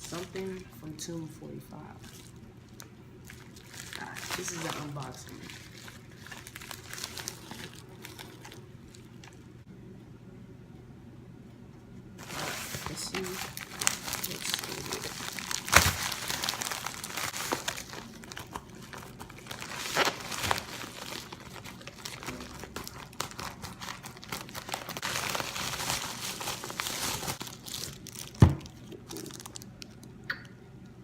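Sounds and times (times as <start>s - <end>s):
packaging crinkling and rustling: 0.0s - 0.7s, 1.9s - 9.5s, 12.2s - 30.1s.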